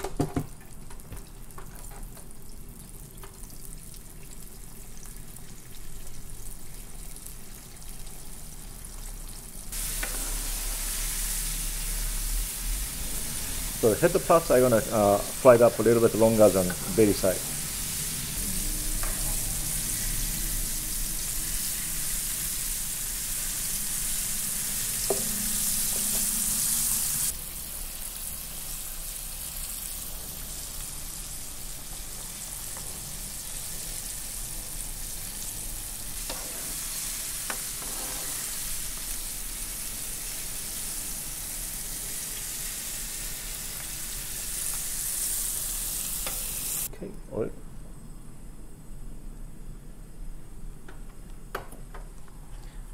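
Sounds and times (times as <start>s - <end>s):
fish deep-frying in hot oil: 0.0s - 46.9s.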